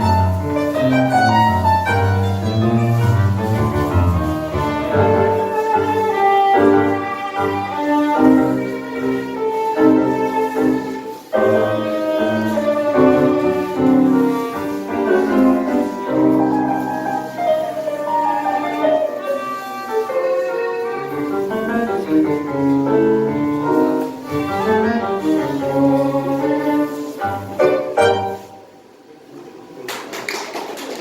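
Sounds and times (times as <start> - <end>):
live tango music ensemble: 0.0 - 30.0.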